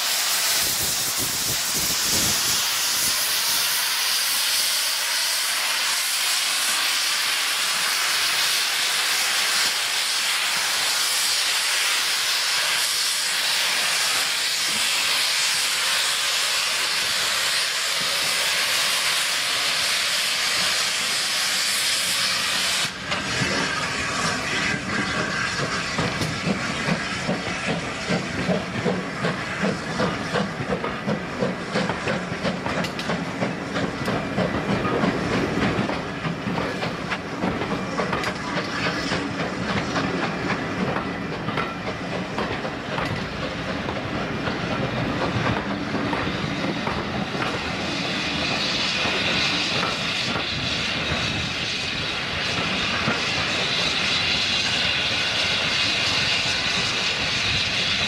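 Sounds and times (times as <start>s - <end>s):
steam hissing: 0.0s - 58.0s.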